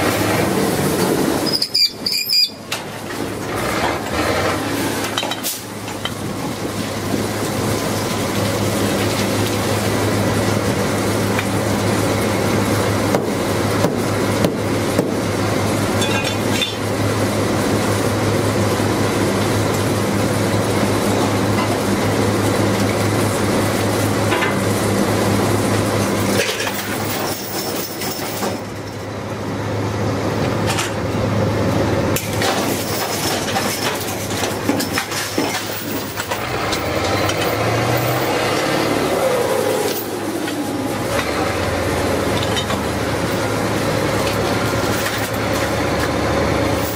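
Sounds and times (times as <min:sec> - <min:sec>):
drilling rig engine running: 0:00.0 - 0:46.9.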